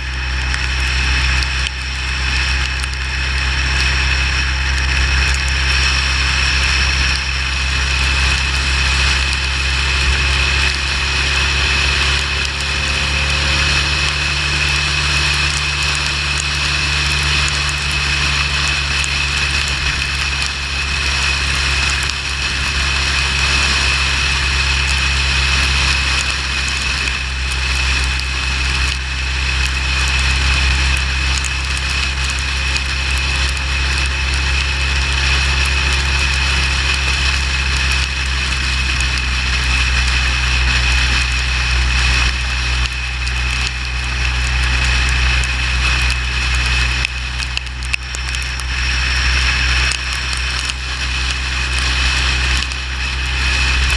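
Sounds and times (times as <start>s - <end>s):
motorcycle engine drone: 0.0s - 53.9s
wind and road noise: 0.0s - 53.9s.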